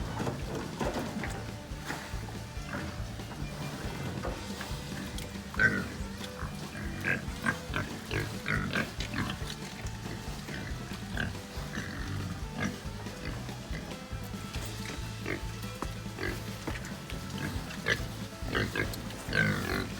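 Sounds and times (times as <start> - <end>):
background music: 0.0 - 19.9
hogs squealing and grunting: 0.0 - 19.9.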